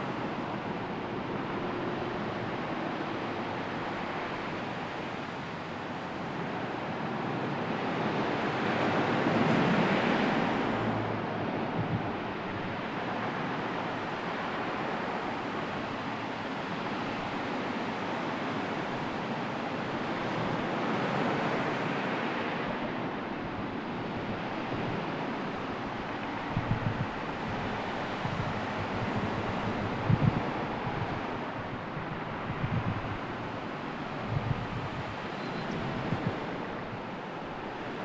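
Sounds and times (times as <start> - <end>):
sea waves washing ashore: 0.0 - 38.0.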